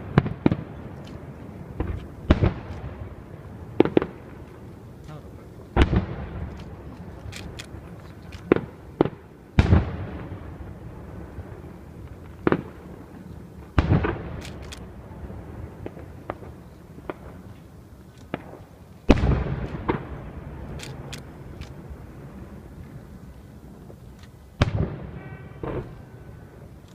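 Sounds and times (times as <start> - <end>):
faint firework crackles and pops: 0.0 - 26.9
fireworks booming: 0.0 - 26.9.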